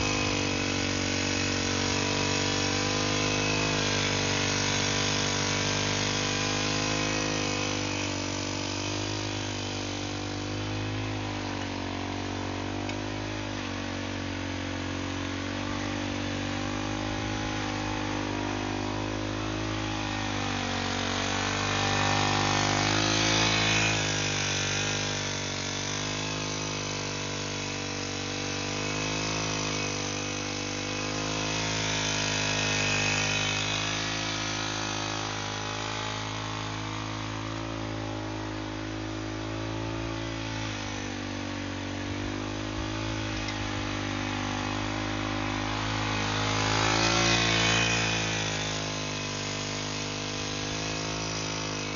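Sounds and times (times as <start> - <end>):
wheel churning cement and stones: 0.0 - 40.2, 40.8 - 51.9
small engine running: 0.0 - 51.9.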